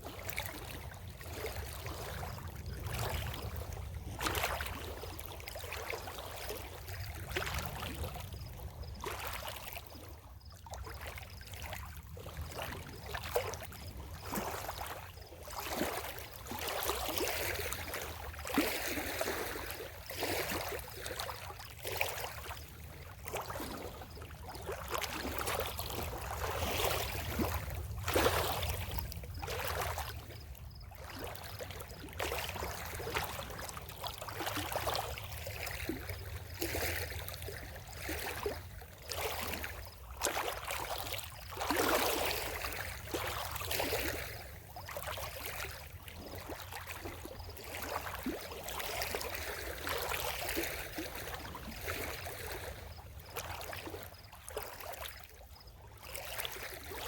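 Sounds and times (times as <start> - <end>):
water splashing at shore: 0.0 - 57.0.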